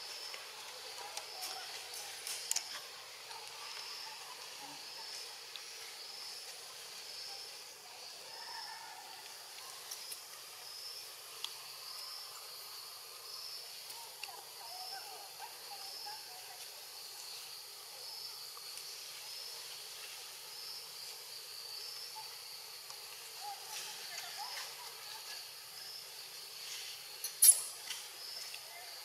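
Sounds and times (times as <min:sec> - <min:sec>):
ambient hiss: 0:00.0 - 0:29.0.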